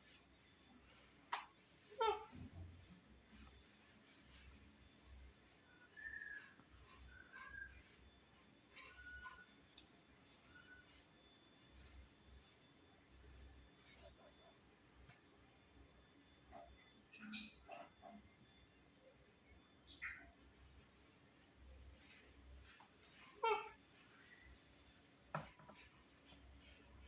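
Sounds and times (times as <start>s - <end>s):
cricket trilling: 0.0s - 27.0s.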